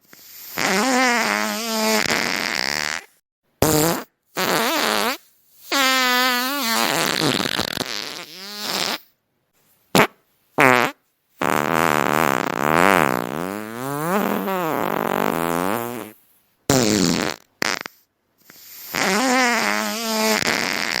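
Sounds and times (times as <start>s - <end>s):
fart sounds: 0.2s - 9.1s, 9.9s - 21.0s.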